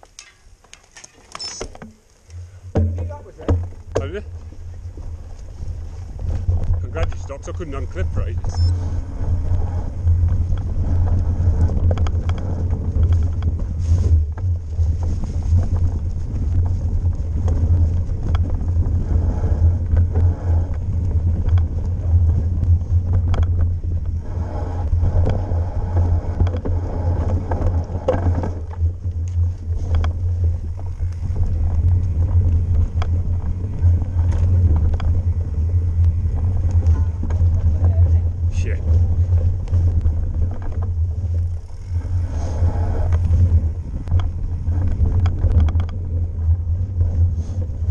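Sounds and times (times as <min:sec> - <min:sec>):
bike knocks and rattles: 0:00.0 - 0:08.5, 0:10.0 - 0:19.0, 0:19.8 - 0:24.2, 0:24.9 - 0:47.9
wind rumble on microphone: 0:01.8 - 0:47.9.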